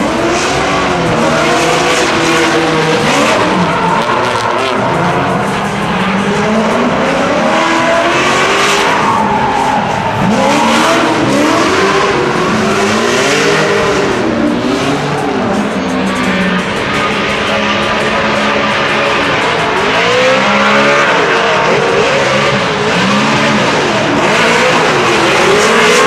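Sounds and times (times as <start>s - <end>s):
car engine revving: 0.0s - 26.0s
tyres squealing and skidding: 0.0s - 26.0s.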